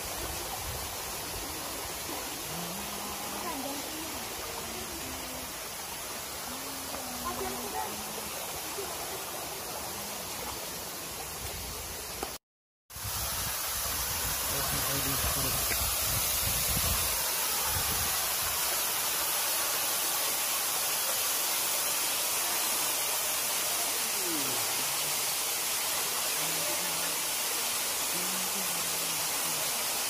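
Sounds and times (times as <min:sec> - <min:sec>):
waterfall rushing: 0:00.0 - 0:12.4, 0:13.0 - 0:30.0.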